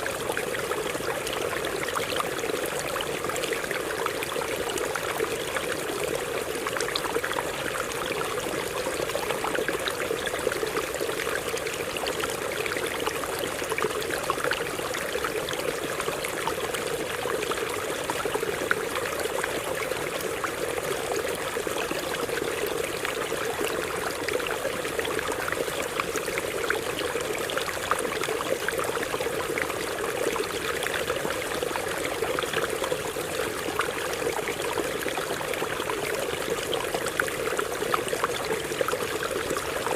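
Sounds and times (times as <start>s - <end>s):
stream water over rocks: 0.0s - 39.9s.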